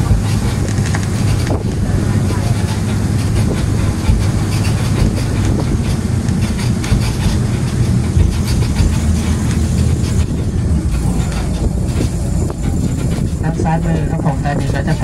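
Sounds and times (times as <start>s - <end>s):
bus engine drone: 0.0s - 15.0s
vehicle rattles and clicks: 0.0s - 15.0s.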